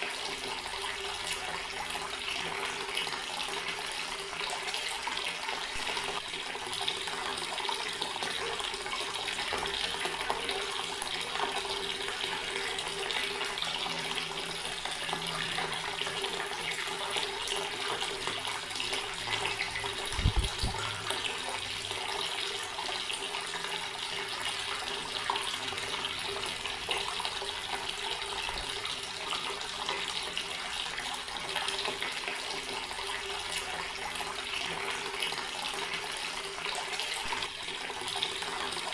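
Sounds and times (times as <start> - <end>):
water running from garden tap: 0.0 - 38.9.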